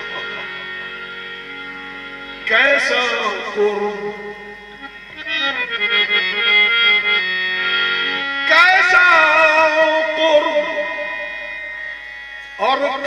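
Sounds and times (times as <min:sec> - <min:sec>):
harmonium melody: 0:00.0 - 0:13.0.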